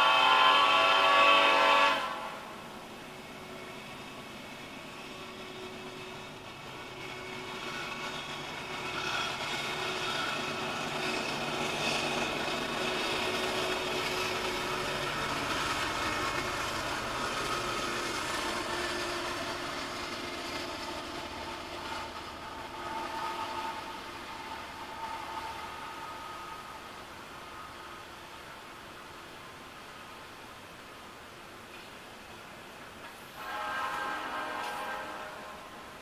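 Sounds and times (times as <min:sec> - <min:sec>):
diesel freight train passing: 0:00.0 - 0:36.0.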